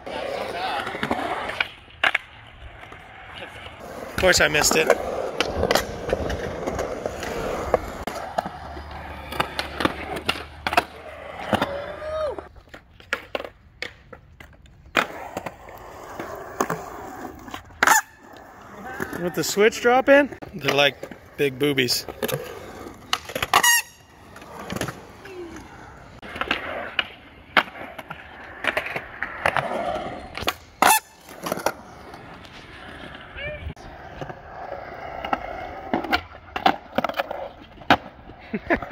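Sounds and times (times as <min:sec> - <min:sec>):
skateboard wheels rolling on concrete: 0:00.0 - 0:38.9
skateboard clacking on ground: 0:00.1 - 0:38.4.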